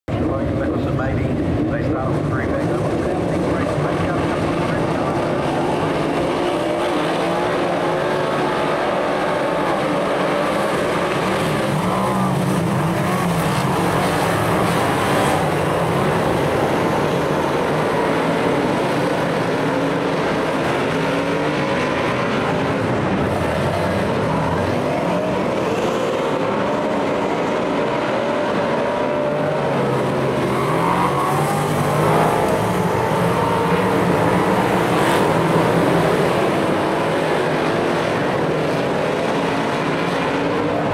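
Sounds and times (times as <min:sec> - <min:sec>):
race car engines revving: 0:00.1 - 0:40.9.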